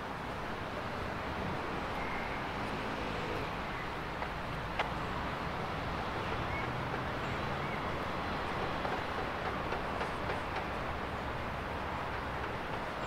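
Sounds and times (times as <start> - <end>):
road vehicles humming: 0.0 - 13.0.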